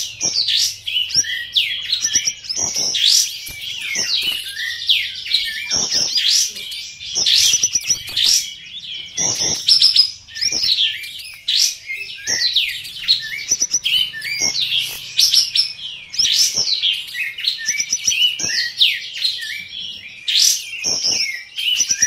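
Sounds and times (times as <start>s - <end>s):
bulbuls singing whistled phrases: 0.0s - 22.0s.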